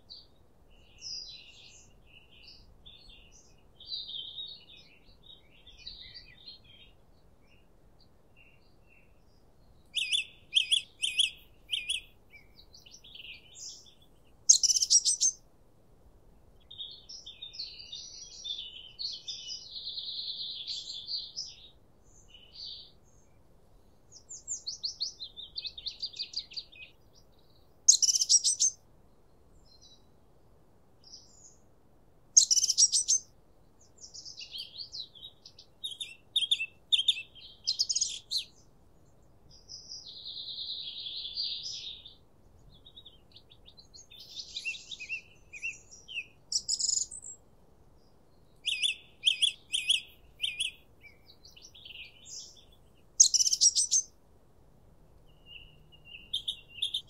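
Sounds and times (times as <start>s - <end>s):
songbirds singing: 0.0s - 15.5s, 16.2s - 57.0s.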